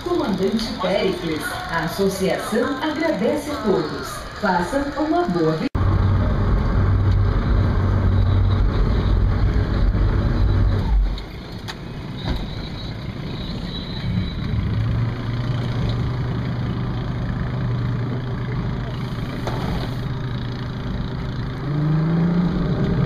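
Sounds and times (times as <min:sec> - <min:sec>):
boat engine hum: 0:00.0 - 0:21.7.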